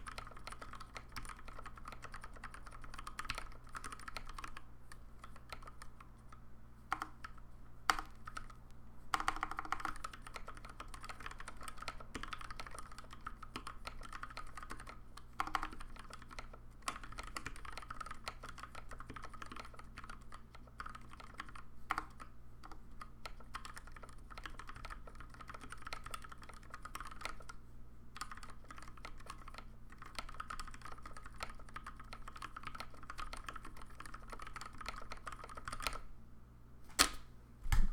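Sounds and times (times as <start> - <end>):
mechanical keyboard typing: 0.0 - 6.1, 6.9 - 27.6, 28.2 - 36.0.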